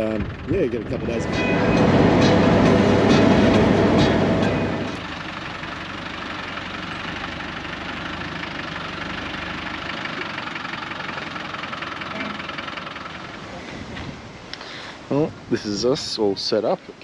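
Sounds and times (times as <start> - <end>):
car engine running steadily: 0.0 - 14.6.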